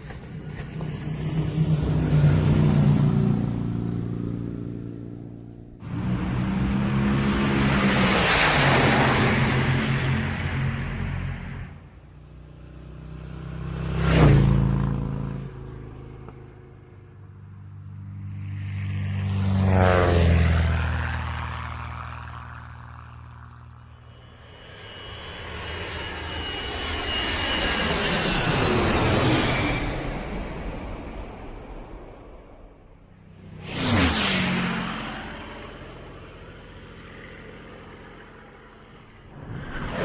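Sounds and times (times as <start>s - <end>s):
engine pass-bys: 0.0s - 40.0s
high whine like an aircraft: 0.0s - 40.0s.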